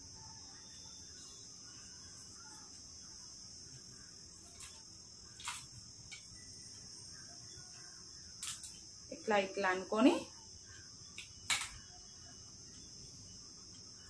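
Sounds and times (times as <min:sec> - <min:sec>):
steady high-pitched hum: 0:00.0 - 0:14.0.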